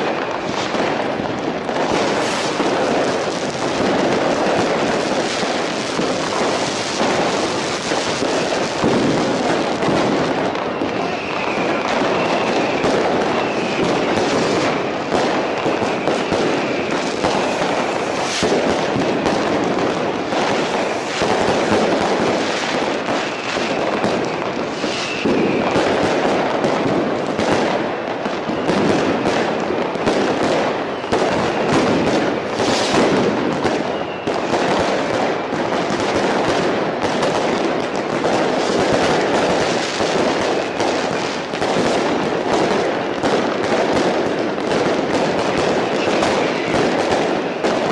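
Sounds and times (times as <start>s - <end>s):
firework whistles: 0.0s - 47.9s
fireworks bangs and crackles: 0.0s - 47.9s.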